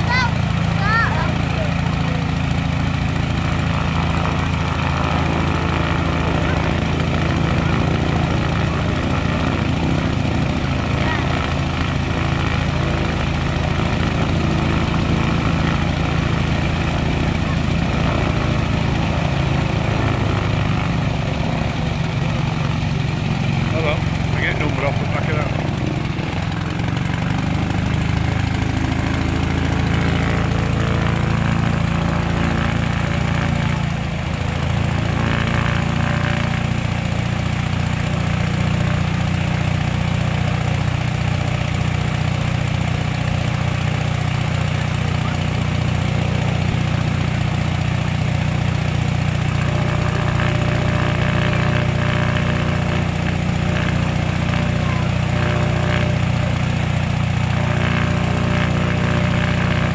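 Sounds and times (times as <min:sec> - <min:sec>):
piston aero engines running: 0:00.0 - 0:59.9.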